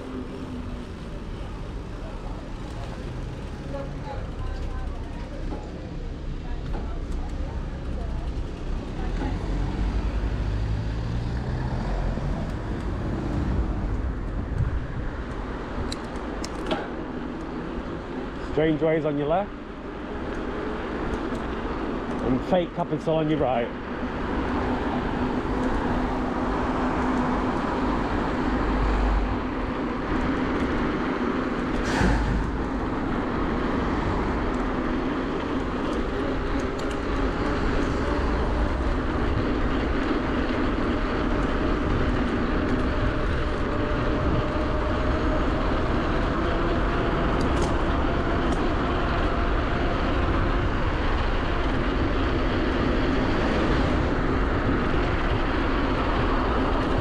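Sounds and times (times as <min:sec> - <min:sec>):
wind: 0:00.0 - 0:57.0.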